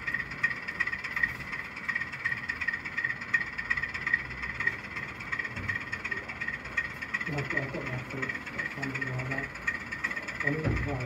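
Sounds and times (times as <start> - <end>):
model train whirring: 0.0 - 11.0.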